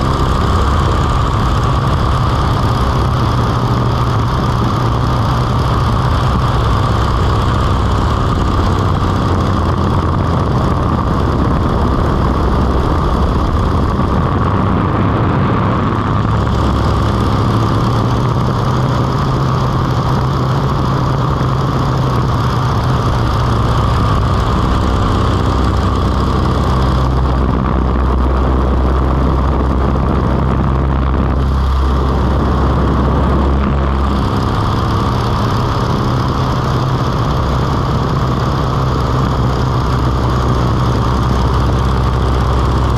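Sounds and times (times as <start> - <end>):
plane engine running: 0.0 - 42.9.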